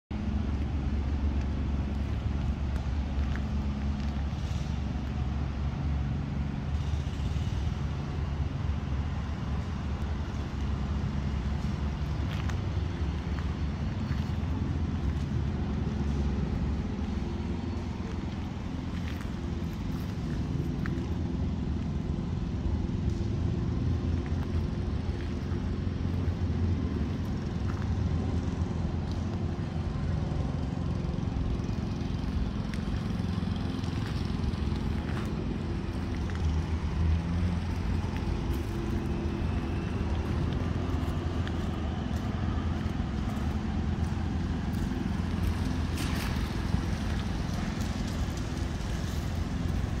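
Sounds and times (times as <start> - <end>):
low outdoor rumble: 0.1 - 50.0.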